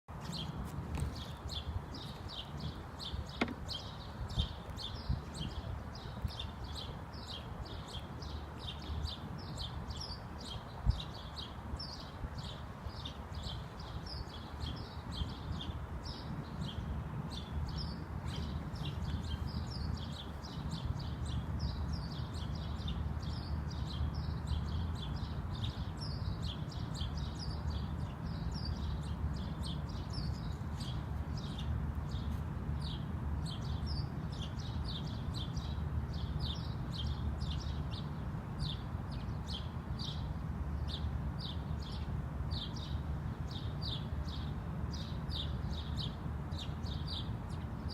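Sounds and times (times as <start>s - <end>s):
birds chirping: 0.1s - 47.9s.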